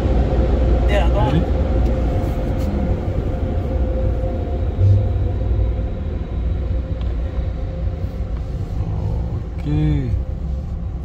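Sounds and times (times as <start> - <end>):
car road rumble: 0.0 - 11.0
faint steady hum: 0.0 - 11.0
low surge: 0.0 - 11.0.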